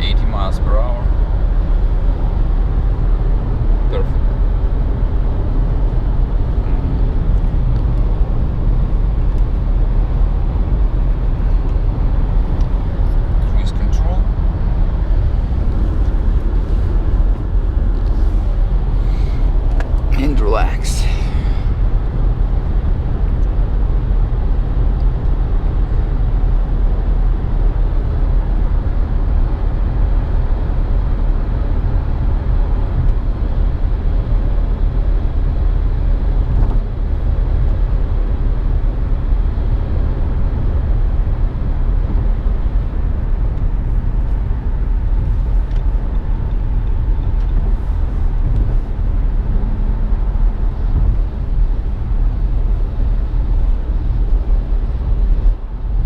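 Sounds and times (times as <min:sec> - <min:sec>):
car cabin road and wind noise: 0:00.0 - 0:56.0.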